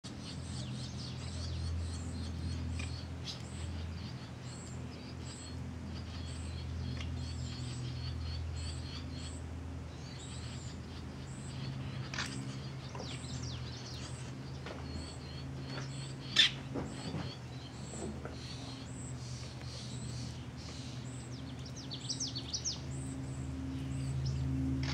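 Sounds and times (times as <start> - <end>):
birds chirping: 0.1 - 24.9
low steady hum: 0.1 - 24.9.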